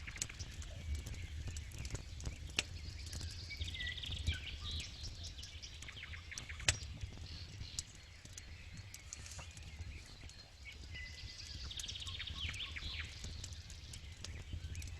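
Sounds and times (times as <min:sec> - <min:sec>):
birds chirping: 0:00.0 - 0:14.9
campfire crackling and popping: 0:00.0 - 0:14.9.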